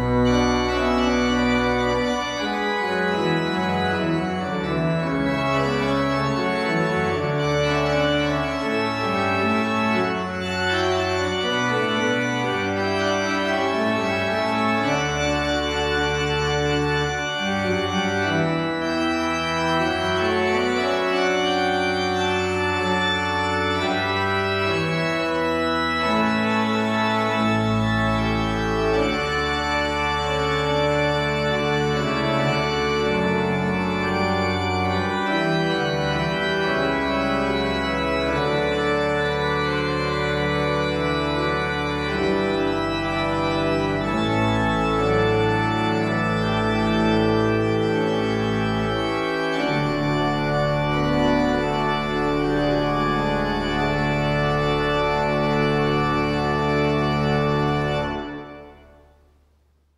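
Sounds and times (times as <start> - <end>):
church organ playing chords: 0.0 - 59.6.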